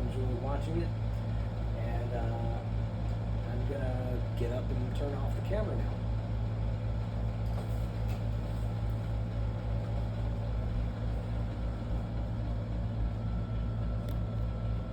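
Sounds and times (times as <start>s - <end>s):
low room hum: 0.0s - 14.9s.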